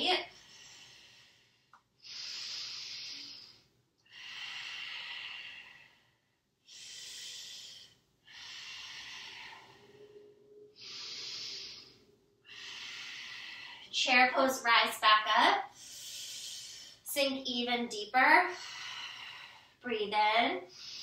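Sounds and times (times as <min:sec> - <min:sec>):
woman breathing in and out: 0:00.2 - 0:17.6, 0:18.2 - 0:21.0.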